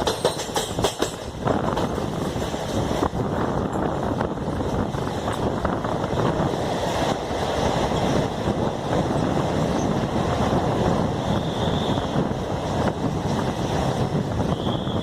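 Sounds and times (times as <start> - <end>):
train wheels rumbling on track: 0.0 - 15.0
wind buffeting microphone: 0.0 - 15.0.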